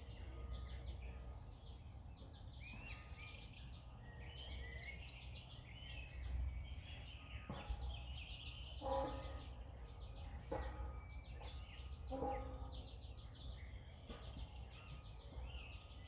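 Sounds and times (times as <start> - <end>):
songbirds singing and chirping: 0.0 - 16.0.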